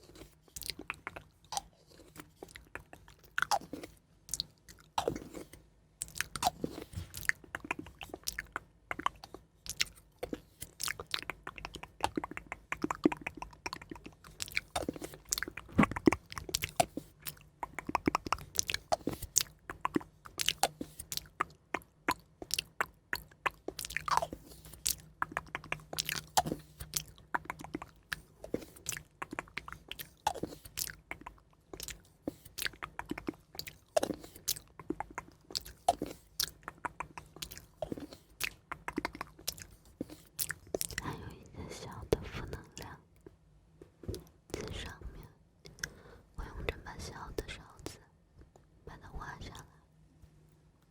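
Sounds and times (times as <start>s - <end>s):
asmr mouth chewing clicks: 0.0s - 43.4s.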